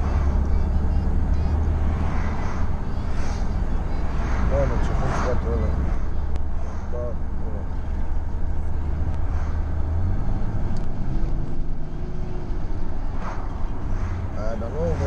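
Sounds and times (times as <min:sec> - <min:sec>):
car engine and tyres drone: 0:00.0 - 0:15.0.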